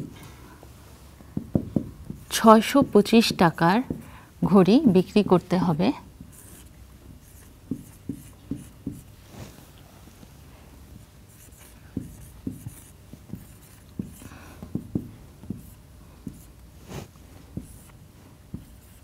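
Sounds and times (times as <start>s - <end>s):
marker pen writing on whiteboard: 1.1s - 9.2s, 10.9s - 19.0s.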